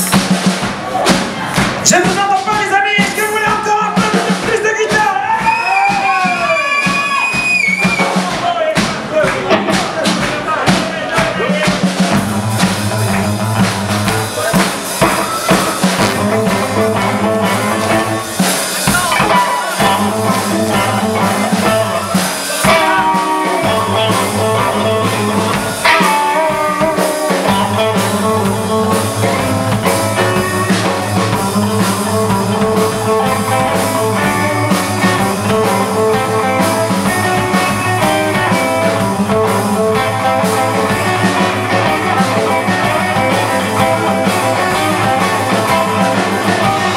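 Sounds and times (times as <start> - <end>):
rockabilly band playing: 0.0 - 46.9.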